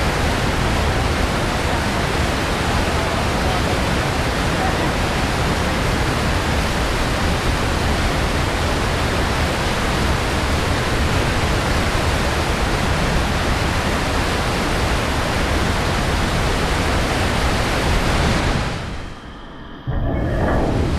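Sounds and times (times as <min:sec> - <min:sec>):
whitewater rushing: 0:00.0 - 0:19.1.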